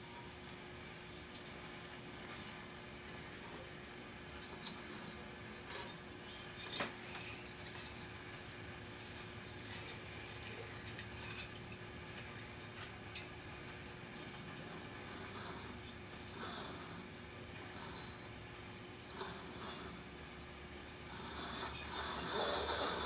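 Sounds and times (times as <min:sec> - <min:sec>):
faint steady hum and hiss: 0:00.0 - 0:23.0.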